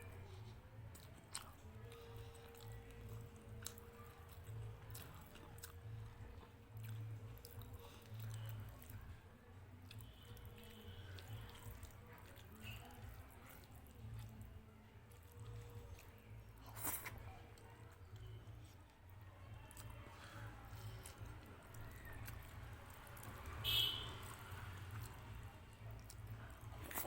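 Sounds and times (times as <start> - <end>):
chewing and wet mouth sounds: 0.0 - 27.0.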